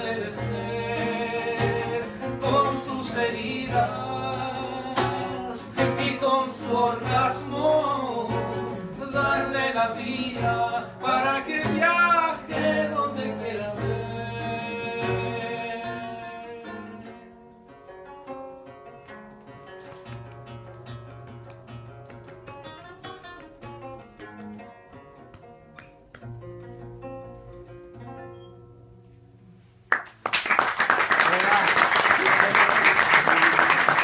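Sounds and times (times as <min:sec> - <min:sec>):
plucked acoustic guitar: 0:00.0 - 0:29.9.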